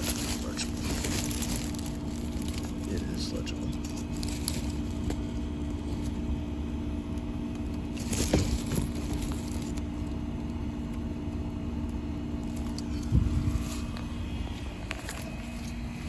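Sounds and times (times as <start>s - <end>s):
heat pump humming: 0.0s - 16.0s.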